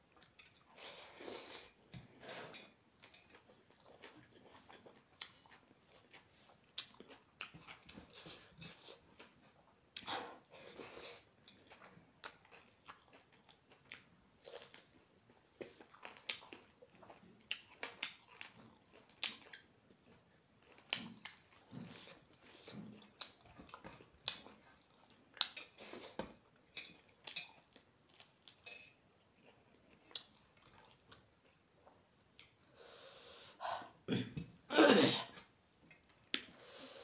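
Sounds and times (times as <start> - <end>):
chewing and mouth sounds: 0.1 - 32.7.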